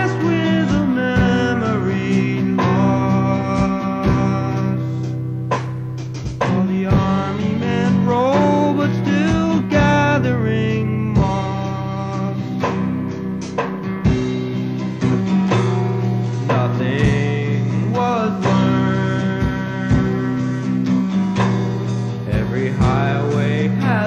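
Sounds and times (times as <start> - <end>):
guitar-led band music: 0.0 - 24.0
strummed guitar chords: 0.0 - 24.0.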